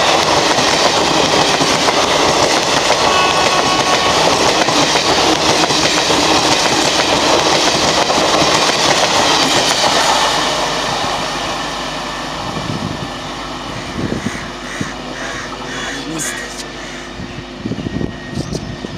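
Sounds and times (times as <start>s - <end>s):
train wheels rushing over rails: 0.0s - 18.9s.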